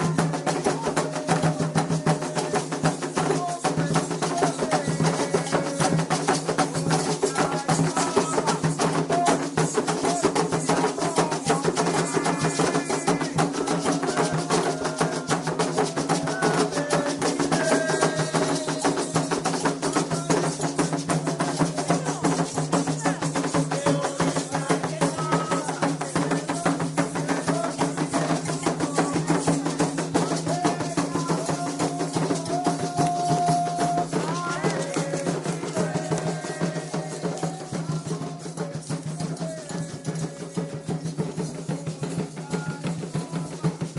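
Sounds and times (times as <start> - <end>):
hand drums playing fast rhythm: 0.0 - 43.9
voices singing: 0.0 - 43.9.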